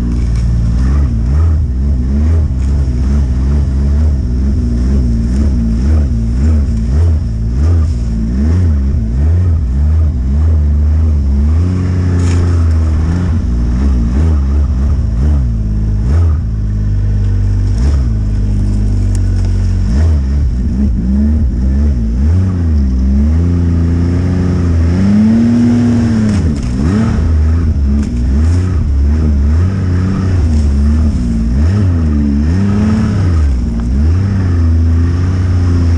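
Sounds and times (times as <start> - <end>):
snowmobile engine revving: 0.0 - 35.9.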